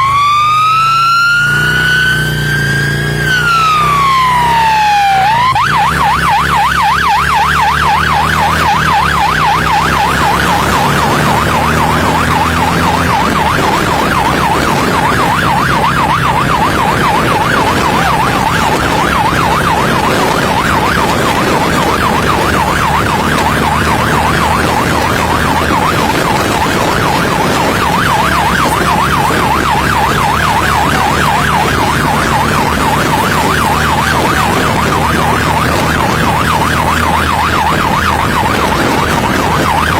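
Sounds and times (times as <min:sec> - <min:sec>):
engine running: 0:00.0 - 0:39.9
police siren yelping: 0:00.0 - 0:39.9.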